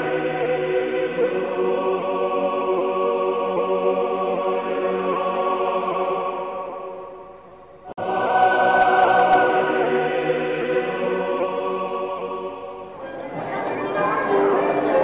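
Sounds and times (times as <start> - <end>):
choir singing chant-like chords: 0.0 - 15.0.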